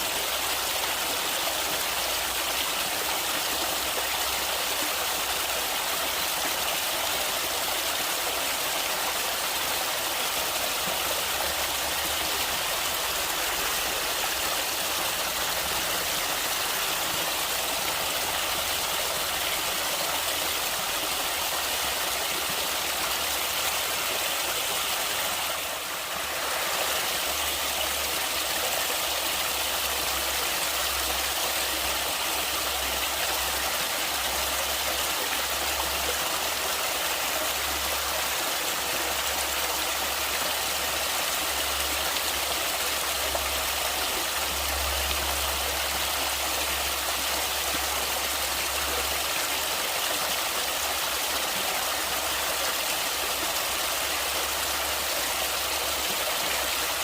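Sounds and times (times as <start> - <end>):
stream water rushing and splashing: 0.0 - 57.0.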